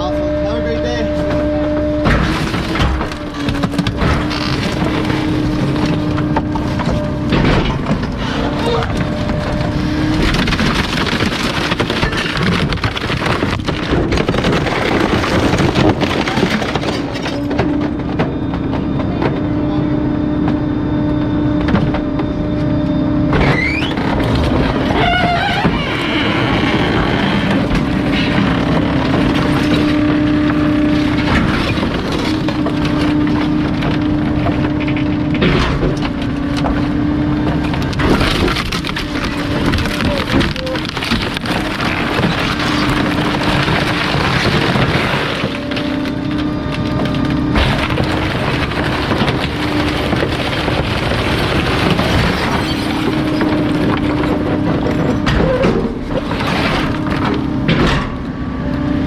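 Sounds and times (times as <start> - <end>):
hydraulic compactor humming: 0.0 - 59.0
trash crunching and cracking: 0.0 - 59.0.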